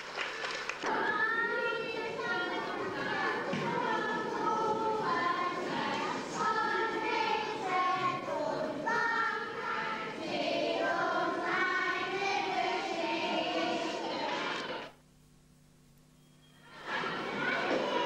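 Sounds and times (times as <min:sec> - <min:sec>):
room noise: 0:00.0 - 0:18.0
young children singing: 0:00.8 - 0:14.9, 0:16.8 - 0:18.0.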